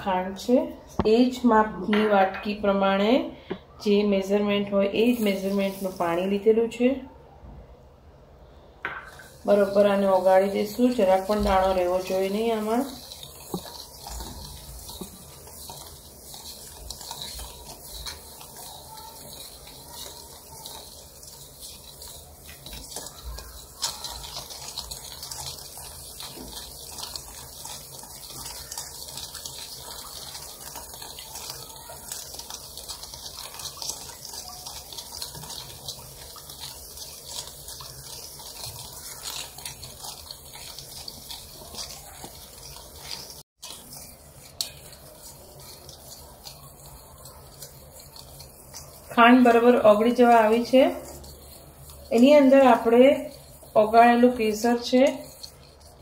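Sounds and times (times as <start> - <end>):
liquid swishing: 4.8 - 6.6, 8.2 - 56.0
spoon scraping steel bowl: 8.9 - 56.0.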